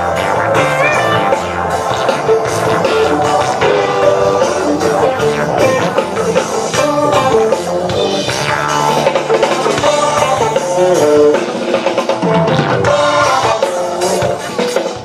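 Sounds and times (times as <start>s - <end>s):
melodic electric guitar: 0.0s - 15.0s
rock band playing live: 0.0s - 15.0s.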